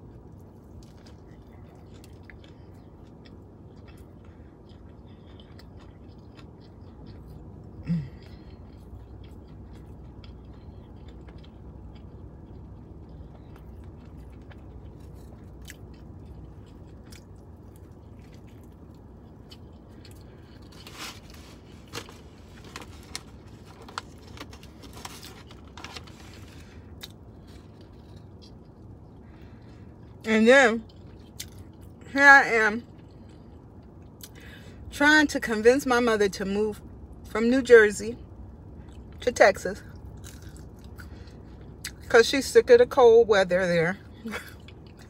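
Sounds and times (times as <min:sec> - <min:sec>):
chewing crisp crunches: 0:00.0 - 0:30.2, 0:30.8 - 0:32.1, 0:32.8 - 0:34.6, 0:38.3 - 0:39.2, 0:39.8 - 0:42.1, 0:44.0 - 0:45.0
steady low hum: 0:00.0 - 0:45.0.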